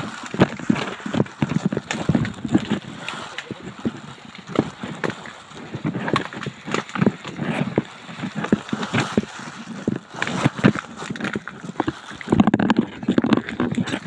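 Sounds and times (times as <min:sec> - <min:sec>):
footsteps on rough trail: 0:00.0 - 0:14.0.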